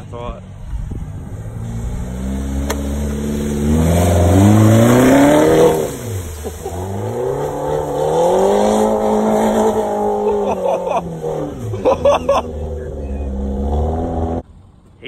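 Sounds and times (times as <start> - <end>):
water and mud spraying: 0.7 - 14.0
car engine revving hard: 1.0 - 14.4.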